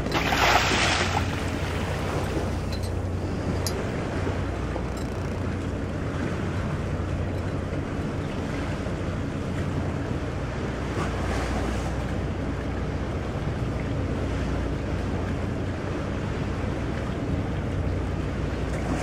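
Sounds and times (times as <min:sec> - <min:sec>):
low vessel hum: 0:00.0 - 0:19.0
water rushing along ship's bow: 0:00.0 - 0:19.0.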